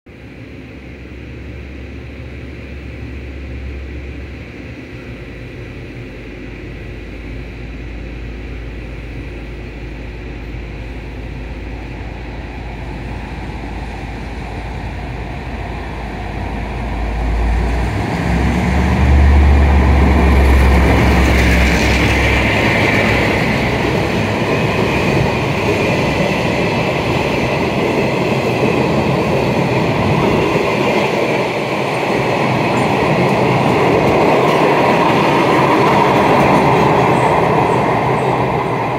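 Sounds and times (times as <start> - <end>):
freight train passing: 0.1 - 38.9
locomotive humming: 0.1 - 38.9.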